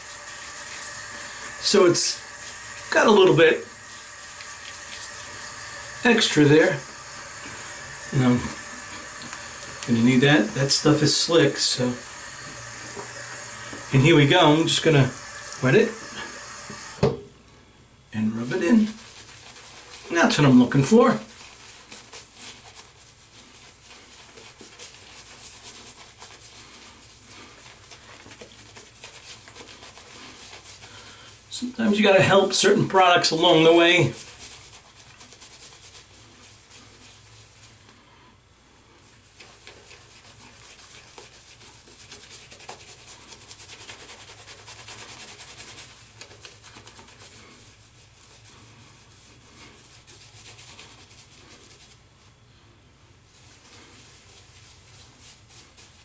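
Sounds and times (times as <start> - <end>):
shaving brush scrubbing lather: 0.0 - 17.1, 18.2 - 38.0, 39.0 - 52.1, 53.3 - 56.0.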